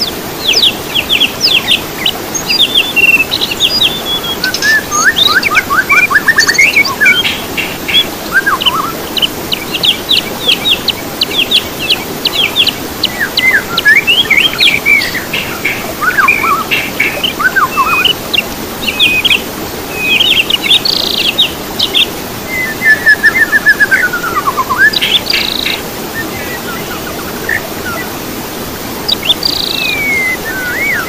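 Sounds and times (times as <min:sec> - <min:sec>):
songbirds singing and chirping: 0:00.0 - 0:31.0.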